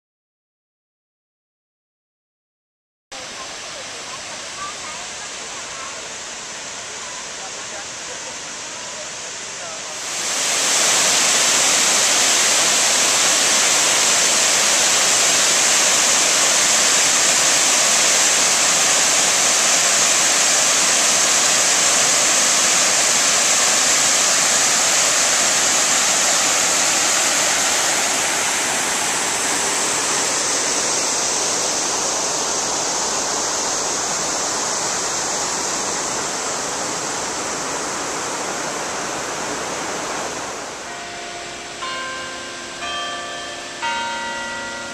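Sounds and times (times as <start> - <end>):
waterfall rushing: 3.2 - 44.9.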